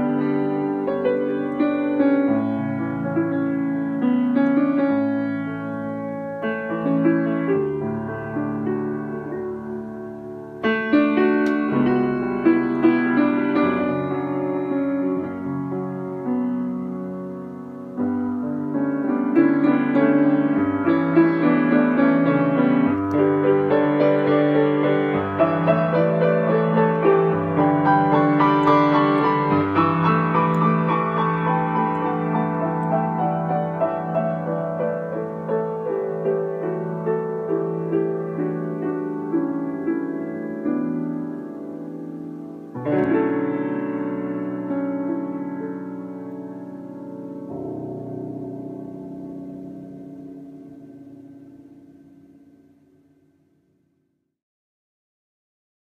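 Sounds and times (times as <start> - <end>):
solo piano: 0.0 - 54.1.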